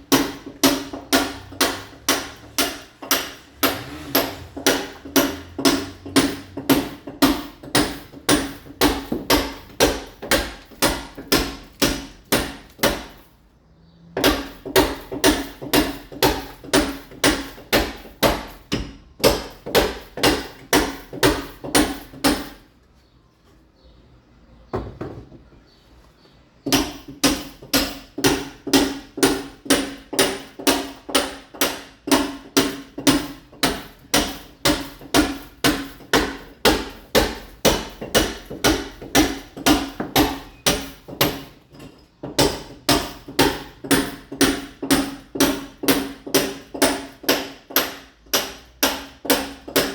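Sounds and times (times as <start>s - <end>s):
hammer chipping a masonry wall: 0.0s - 13.4s, 14.0s - 22.7s, 26.6s - 49.9s.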